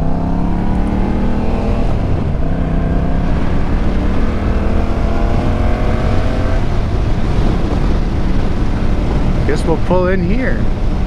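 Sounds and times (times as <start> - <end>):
motorcycle engine accelerating: 0.0 - 11.0
wind rumble on microphone: 0.0 - 11.0.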